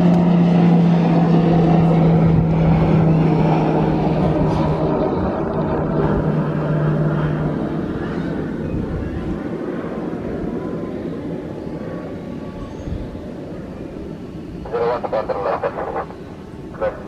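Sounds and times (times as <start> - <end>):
aircraft engine rumble: 0.0 - 17.0.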